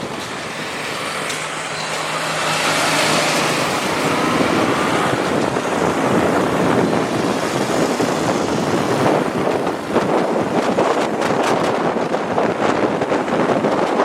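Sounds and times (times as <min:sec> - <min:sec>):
rush of road noise: 0:00.0 - 0:14.0.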